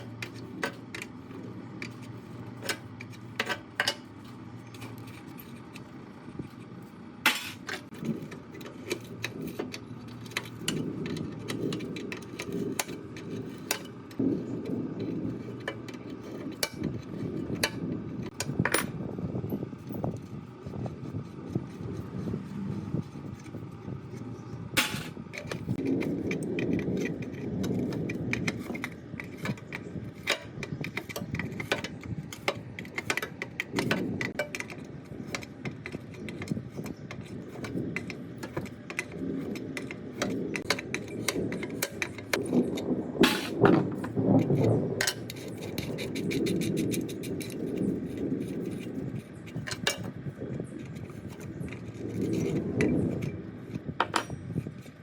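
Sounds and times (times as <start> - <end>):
metal scraping: 0.0 - 55.0.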